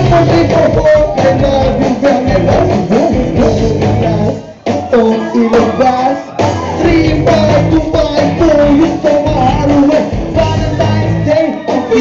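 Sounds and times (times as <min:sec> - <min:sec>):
bass guitar: 0:00.0 - 0:12.0
drums: 0:00.0 - 0:12.0
electric guitars: 0:00.0 - 0:12.0
man singing: 0:00.0 - 0:12.0.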